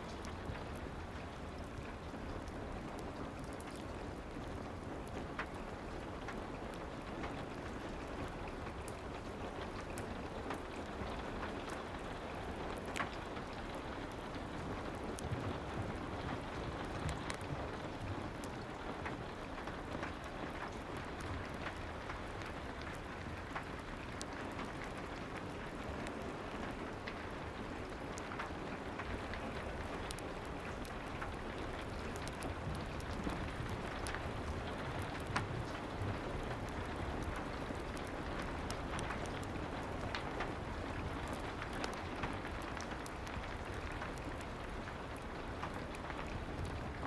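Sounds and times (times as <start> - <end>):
fireplace crackling: 0.0 - 47.0
soft rain falling: 0.0 - 47.0.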